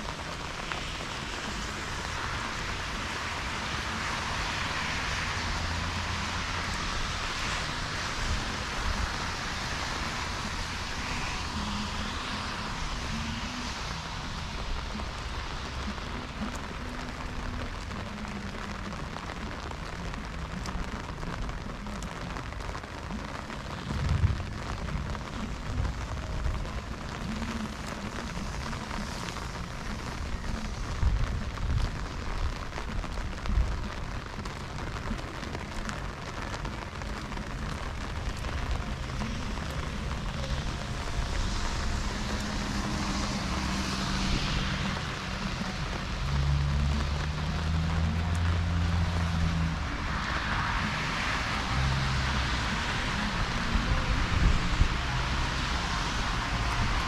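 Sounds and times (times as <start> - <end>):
rain splashing on surfaces: 0.0 - 57.0.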